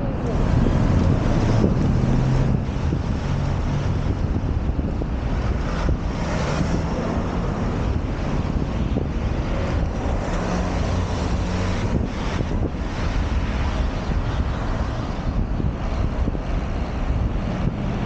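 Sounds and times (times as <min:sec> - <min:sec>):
passing traffic engines: 0:00.0 - 0:18.0
wind on microphone: 0:00.0 - 0:18.0.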